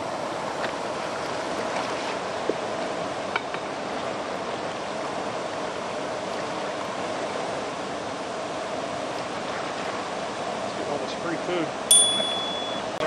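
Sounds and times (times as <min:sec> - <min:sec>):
water rushing from dam outflow: 0:00.0 - 0:12.1.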